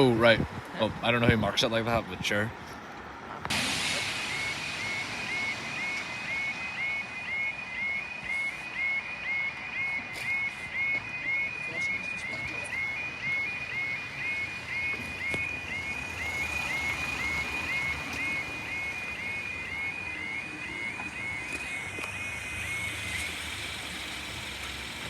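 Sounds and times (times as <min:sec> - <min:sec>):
two-tone electronic crossing alarm: 0:03.5 - 0:25.0.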